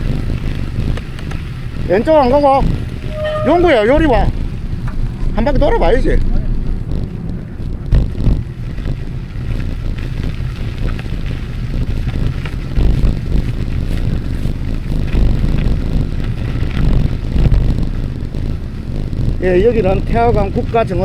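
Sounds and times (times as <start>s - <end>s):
riding rumble: 0.0s - 21.0s
wind buffeting microphone: 0.0s - 21.0s.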